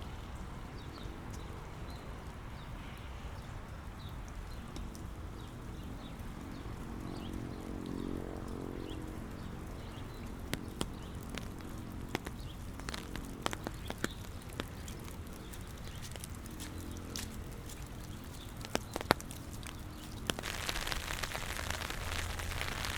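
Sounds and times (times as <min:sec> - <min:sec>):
sharp close drips: 0:00.0 - 0:22.9
steady rain: 0:00.0 - 0:22.9.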